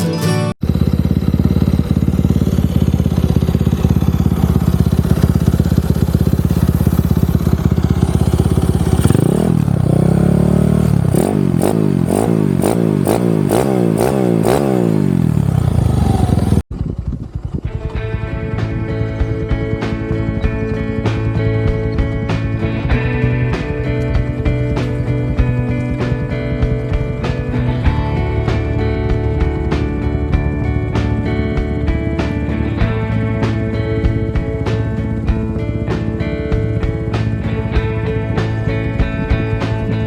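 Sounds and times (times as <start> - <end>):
motorcycle engine idling: 0.6 - 40.0
motorcycle engine revving: 0.6 - 40.0.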